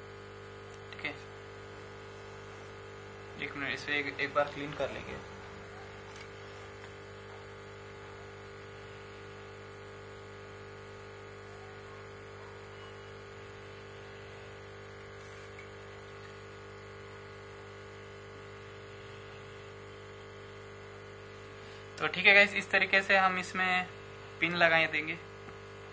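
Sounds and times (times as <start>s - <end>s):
electrical hum: 0.0s - 25.9s.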